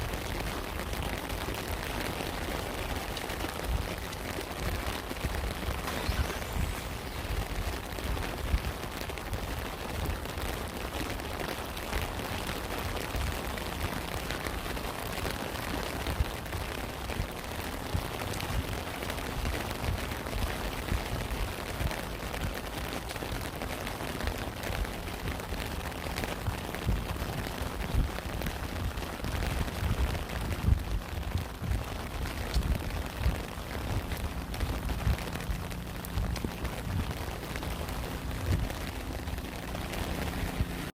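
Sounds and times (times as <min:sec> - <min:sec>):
raindrops striking a surface: 0:00.0 - 0:40.9
steady rain: 0:00.0 - 0:40.9.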